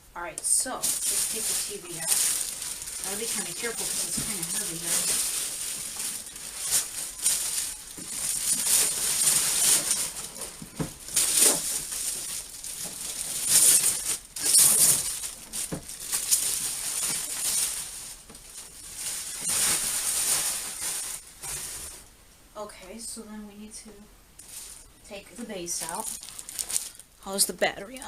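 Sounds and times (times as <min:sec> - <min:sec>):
packaging rustling and scraping: 0:00.6 - 0:22.1, 0:24.4 - 0:27.1.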